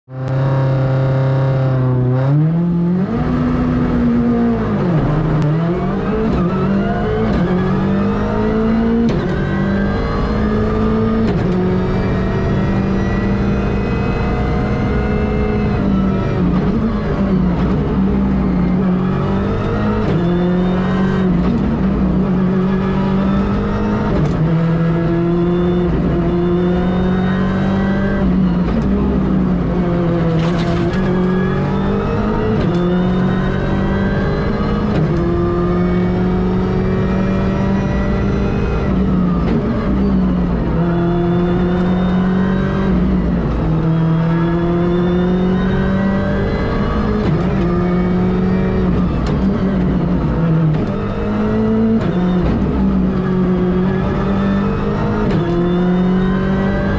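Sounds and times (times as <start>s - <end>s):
rally car engine revving: 0.1s - 56.9s.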